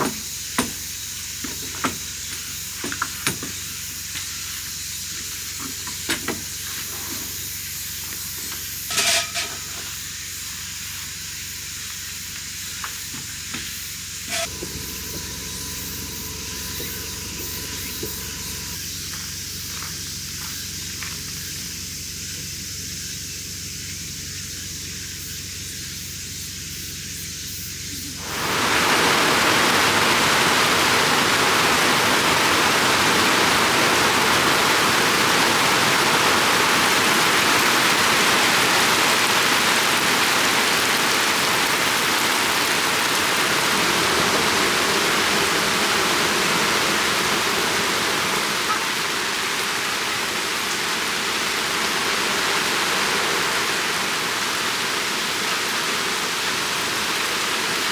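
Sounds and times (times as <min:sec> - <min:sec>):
heavy rain downpour: 0:00.0 - 0:22.2, 0:28.1 - 0:57.9.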